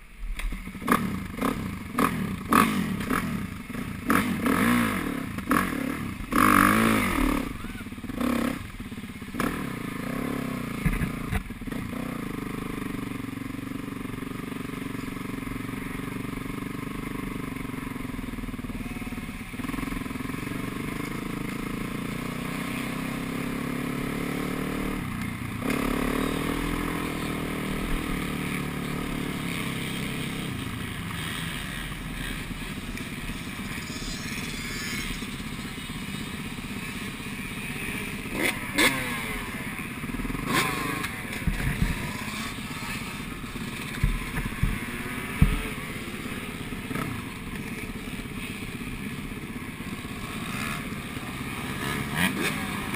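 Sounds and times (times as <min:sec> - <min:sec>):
motocross engine at low revs: 0:00.0 - 0:52.9.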